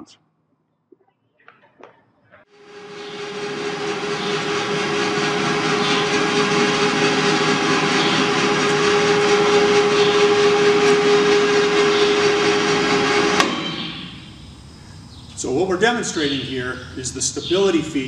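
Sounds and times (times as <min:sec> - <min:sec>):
crane hoist motor whining: 0:02.5 - 0:18.0.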